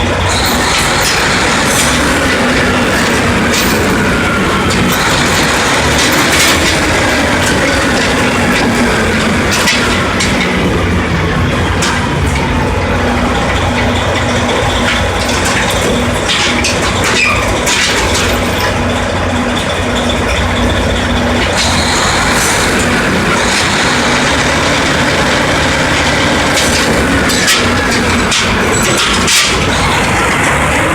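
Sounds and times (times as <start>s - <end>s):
drilling rig engine hum: 0.0s - 30.9s
sharp metallic knocks: 0.0s - 30.9s.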